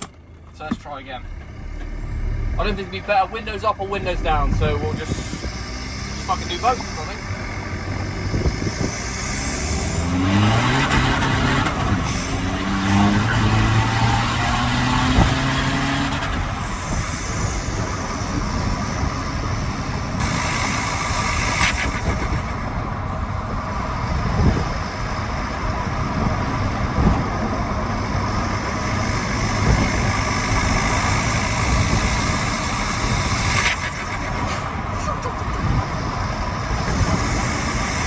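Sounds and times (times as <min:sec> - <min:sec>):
diesel car engine and turbo intake: 0:00.0 - 0:38.0
road and wind noise: 0:00.0 - 0:38.0.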